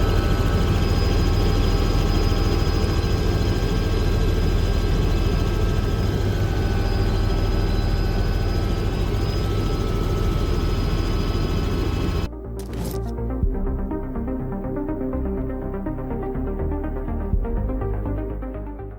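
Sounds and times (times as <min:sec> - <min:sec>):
helicopter rotor and engine: 0:00.0 - 0:18.7
high whine: 0:00.0 - 0:18.7.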